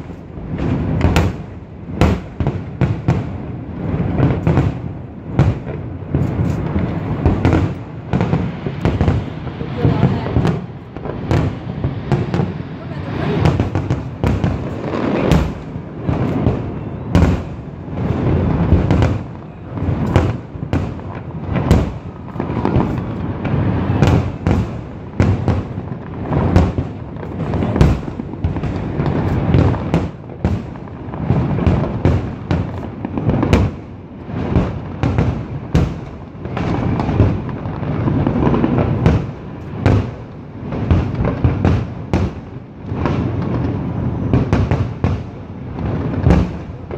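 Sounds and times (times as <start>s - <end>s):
firework shells booming: 0.0s - 46.9s
fireworks crackling: 0.0s - 46.9s.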